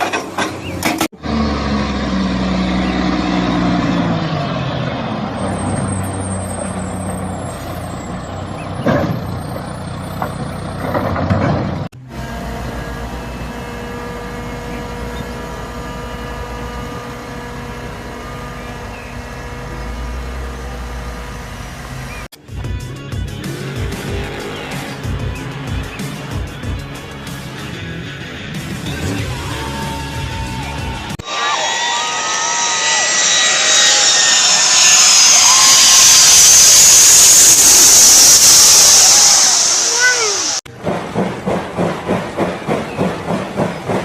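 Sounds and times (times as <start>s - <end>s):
truck engine rumble: 0.0s - 31.2s, 32.0s - 44.0s.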